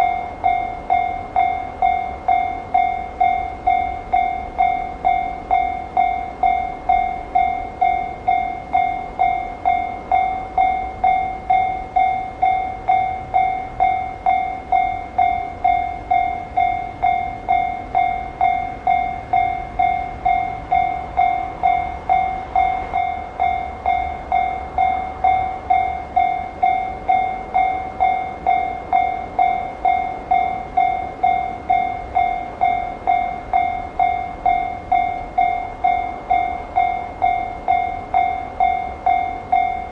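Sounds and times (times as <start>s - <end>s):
level-crossing alarm dinging: 0.0s - 39.9s.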